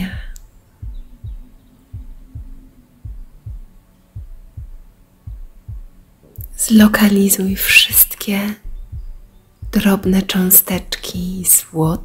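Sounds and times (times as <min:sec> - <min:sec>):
faint steady hum: 0:00.0 - 0:12.0
slow heartbeat: 0:00.0 - 0:12.0.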